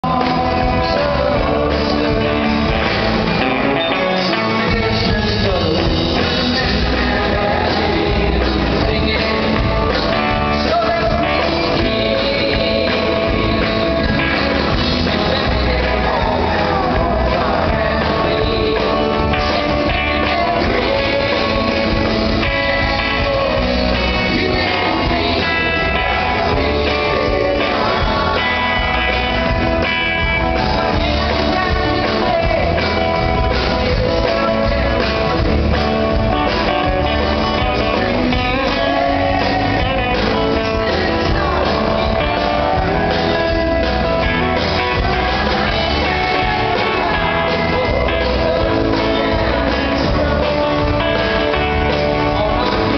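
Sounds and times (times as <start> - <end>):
live country rock band: 0.0 - 52.9
person singing: 0.0 - 52.9.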